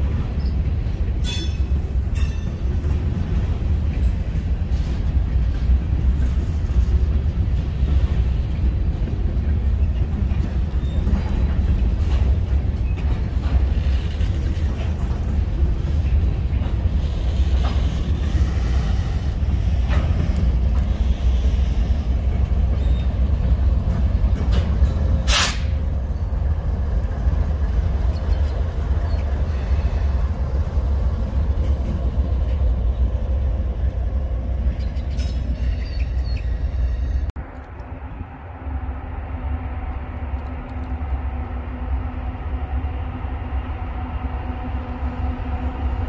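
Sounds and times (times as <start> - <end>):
diesel locomotive passing: 0.0 - 46.0
train wheels rumbling on rails: 0.0 - 46.0.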